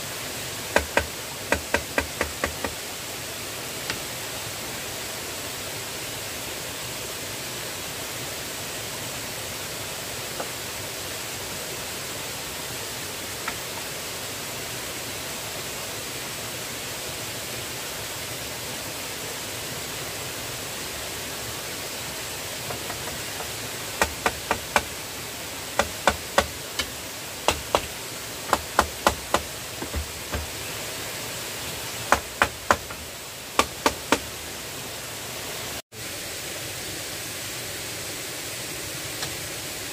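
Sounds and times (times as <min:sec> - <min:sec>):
rushing hiss: 0:00.0 - 0:39.9.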